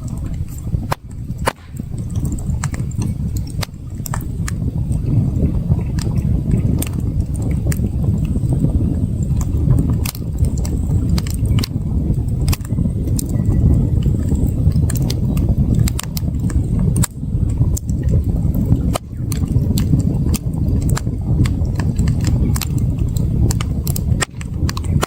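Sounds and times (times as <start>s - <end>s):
campfire crackling: 0.0s - 25.0s
low rumble: 0.0s - 25.0s.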